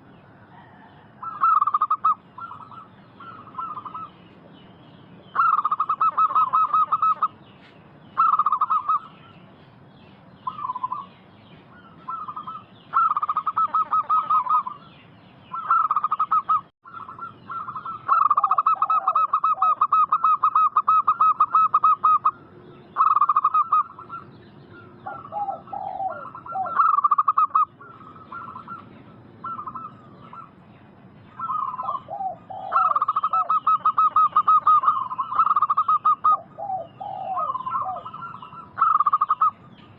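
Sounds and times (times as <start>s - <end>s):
doves cooing: 0.0s - 4.3s, 5.2s - 7.4s, 8.2s - 9.5s, 10.4s - 11.1s, 11.7s - 14.9s, 15.5s - 39.9s.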